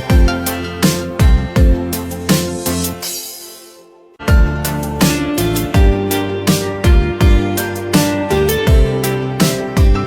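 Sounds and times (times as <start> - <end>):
electronic music with bass kicks: 0.0 - 3.6, 4.2 - 10.0.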